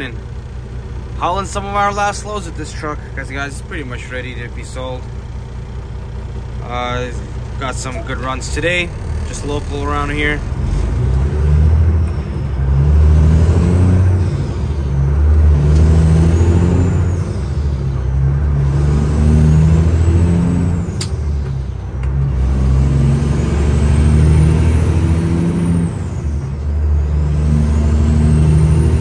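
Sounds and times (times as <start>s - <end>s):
truck diesel engine shifting gears: 0.0s - 29.0s.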